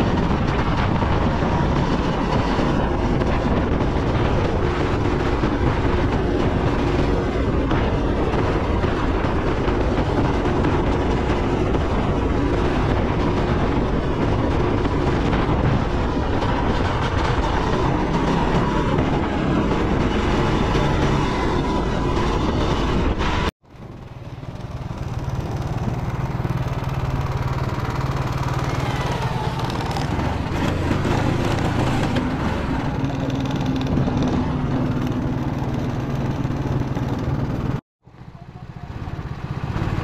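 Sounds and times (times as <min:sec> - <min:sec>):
wind noise: 0:00.0 - 0:37.8
go-kart engine running: 0:00.0 - 0:40.0.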